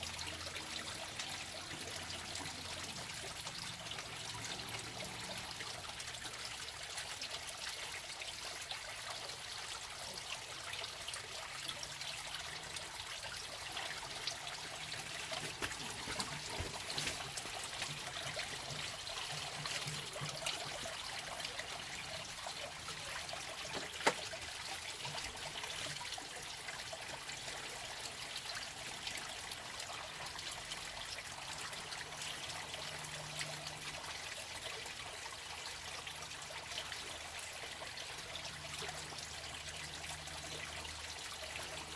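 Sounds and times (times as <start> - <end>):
water trickling in a stream: 0.0 - 41.9.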